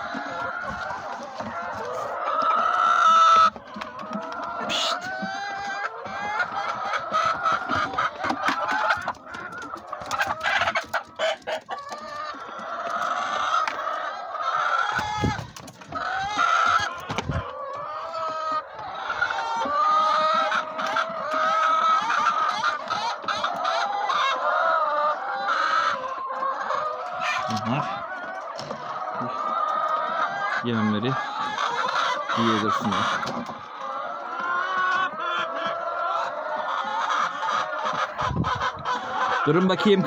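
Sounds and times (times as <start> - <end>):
hens clucking: 0.0 - 40.0.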